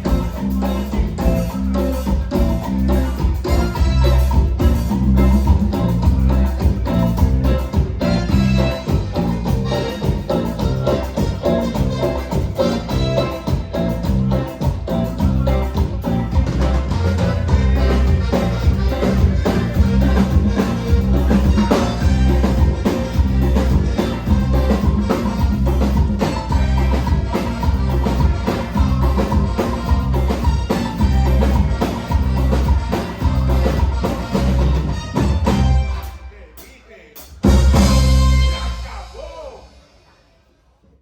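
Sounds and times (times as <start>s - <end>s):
heavy bass: 0.0s - 36.5s, 37.3s - 40.0s
drum kit beat: 0.0s - 39.8s
live band playing cumbia: 0.0s - 40.2s.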